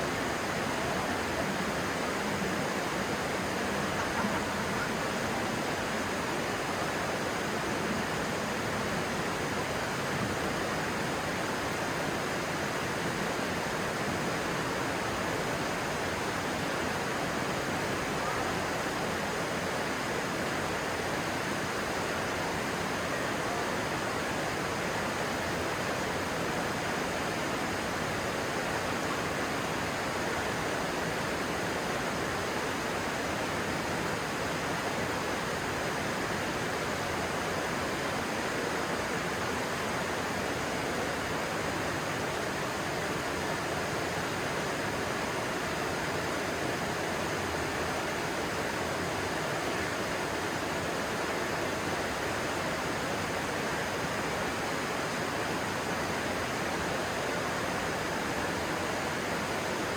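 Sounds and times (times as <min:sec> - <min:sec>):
stream water rushing over stones: 0:00.0 - 0:59.9.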